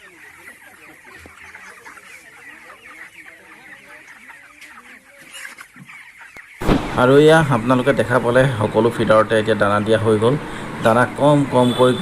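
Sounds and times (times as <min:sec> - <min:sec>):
chickens cheeping and clucking: 0:00.0 - 0:12.0.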